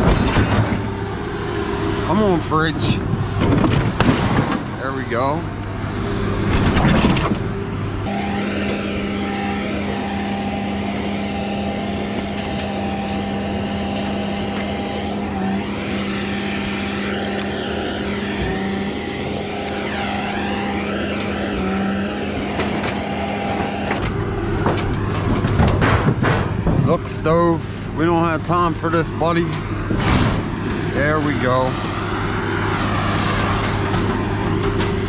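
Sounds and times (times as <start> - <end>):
busy mix of noise: 0.0 - 35.0
steady engine hum: 0.0 - 35.0.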